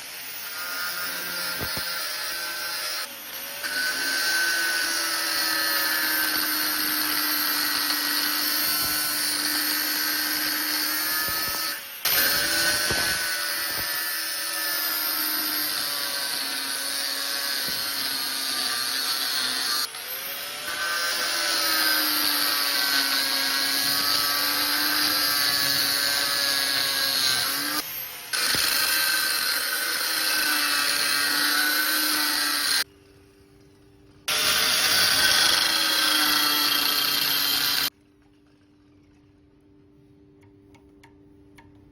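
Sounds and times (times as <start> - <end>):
electric power tool whine: 0.0 - 32.9, 34.2 - 37.9.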